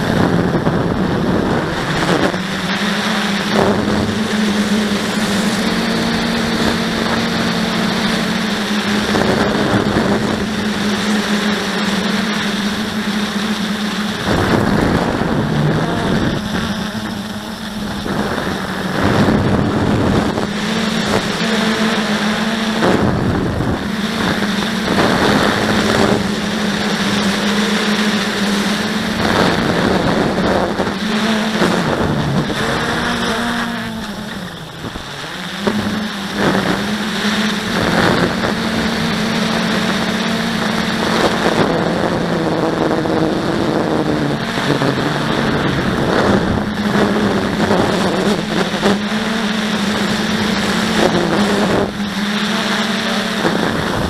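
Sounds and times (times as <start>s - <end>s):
quadcopter propellers buzzing: 0.0s - 54.0s.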